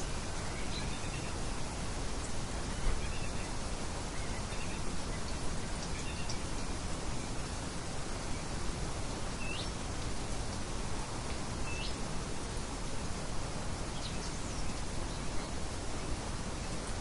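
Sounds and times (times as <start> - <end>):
light wind hissing: 0.0 - 17.0.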